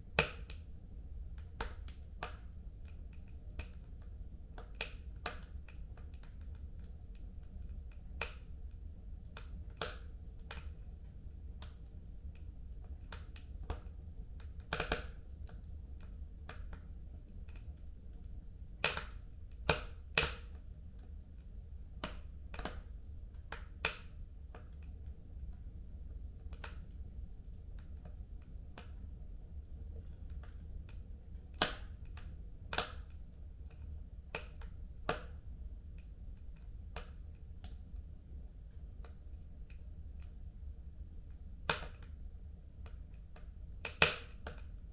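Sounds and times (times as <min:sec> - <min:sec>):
sharp pops and snaps: 0:00.0 - 0:00.7, 0:01.3 - 0:38.1, 0:38.8 - 0:40.4, 0:41.2 - 0:42.2, 0:42.8 - 0:44.9
low fire rumble: 0:00.0 - 0:44.9
wood fire crackling: 0:00.0 - 0:44.9.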